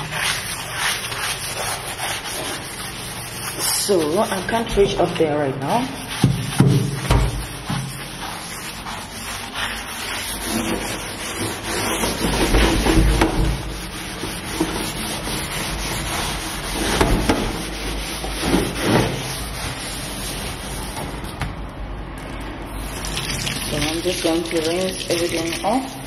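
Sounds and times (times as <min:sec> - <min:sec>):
sponge scrubbing steel sink: 0:00.0 - 0:21.4, 0:22.7 - 0:26.0.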